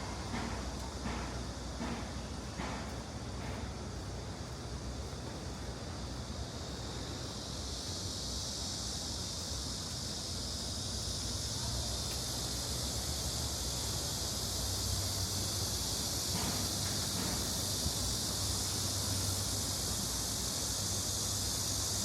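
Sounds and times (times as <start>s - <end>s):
high even hiss of stream: 0.0s - 22.0s.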